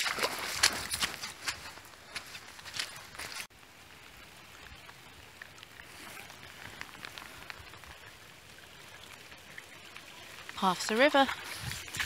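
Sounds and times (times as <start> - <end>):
rain drops ticking: 0.0 - 12.0
rainwater running: 0.0 - 12.0.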